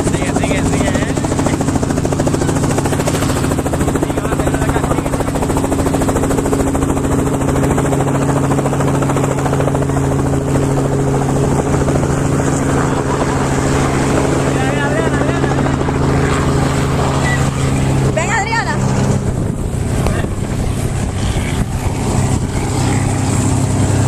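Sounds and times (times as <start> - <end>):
helicopter rotor and engine: 0.0 - 24.0.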